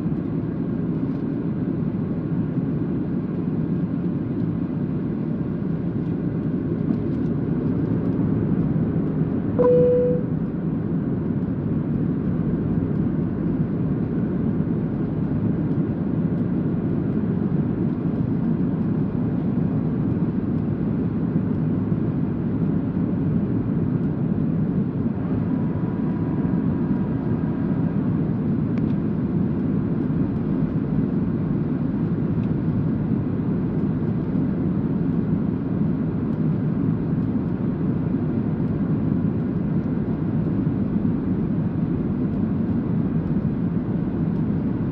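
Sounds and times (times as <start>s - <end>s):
airplane engine rumble in flight: 0.0s - 44.9s.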